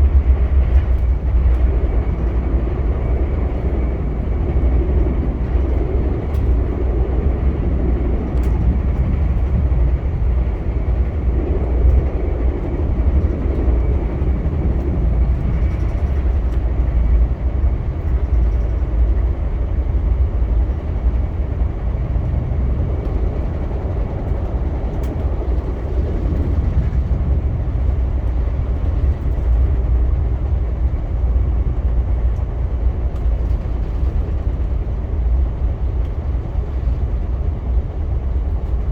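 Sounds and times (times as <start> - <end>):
train wheels rumbling: 0.0 - 38.9.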